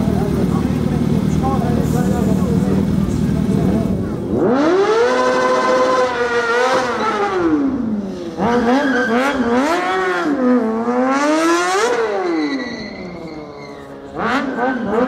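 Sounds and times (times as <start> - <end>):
motorcycle engine revving hard: 0.0 - 13.2, 14.1 - 15.0.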